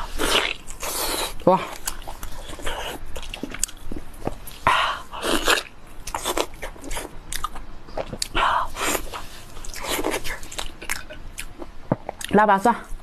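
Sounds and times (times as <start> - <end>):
wet squelchy chewing: 0.0 - 12.4.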